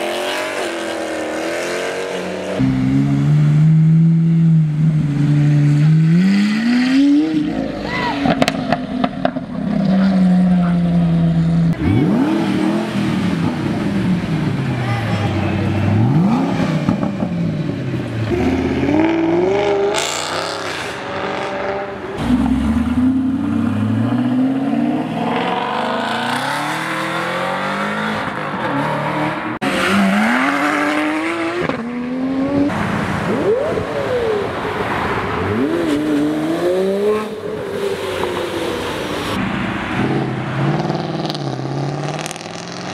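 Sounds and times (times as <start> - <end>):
car engines accelerating hard: 0.0 - 42.9.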